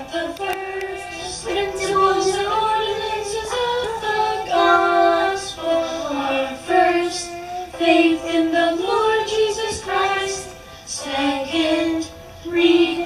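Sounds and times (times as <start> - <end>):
child and woman singing: 0.0 - 13.0
musical accompaniment: 0.0 - 13.0.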